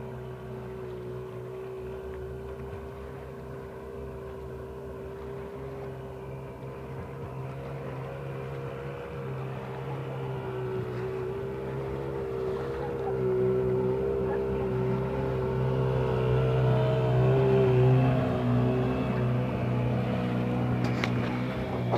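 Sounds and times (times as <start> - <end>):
jet boat engine drone: 0.0 - 21.9.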